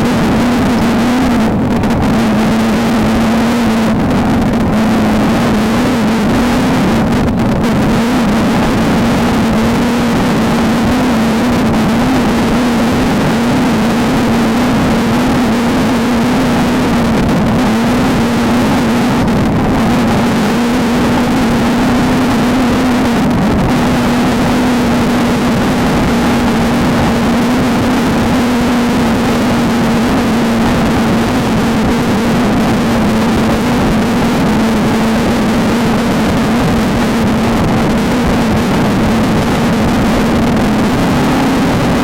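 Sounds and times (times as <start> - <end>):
race car engine running: 0.0 - 42.0
road and wind noise: 0.0 - 42.0.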